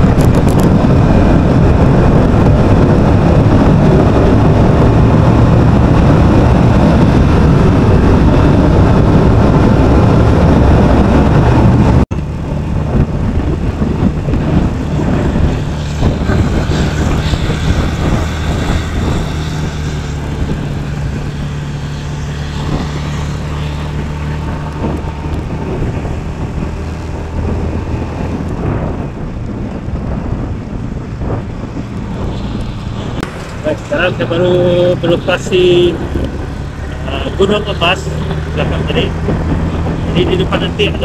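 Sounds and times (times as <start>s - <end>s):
motorcycle engine cruising: 0.0s - 41.0s
wind on microphone: 0.0s - 41.0s.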